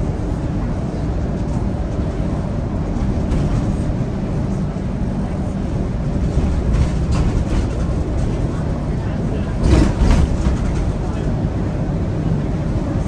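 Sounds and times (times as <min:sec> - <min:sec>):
bus diesel engine running: 0:00.0 - 0:13.0
tyre and road noise: 0:00.1 - 0:13.0.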